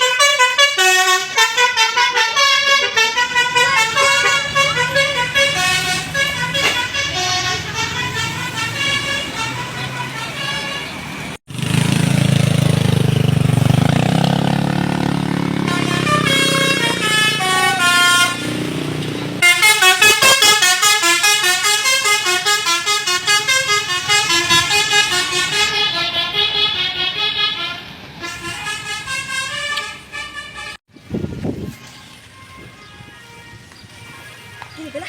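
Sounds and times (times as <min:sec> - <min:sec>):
multi-tone musical bus horn: 0:00.0 - 0:11.4, 0:13.8 - 0:35.0.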